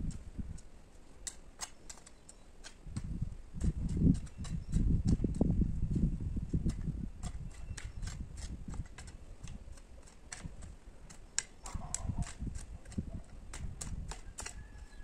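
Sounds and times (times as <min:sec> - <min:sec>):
hoe chopping into dry soil: 0:00.0 - 0:15.0.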